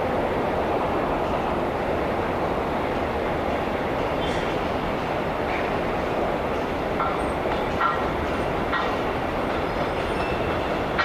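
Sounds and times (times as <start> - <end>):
city traffic: 0.0 - 11.0
subway train rumbling on tracks: 0.0 - 11.0.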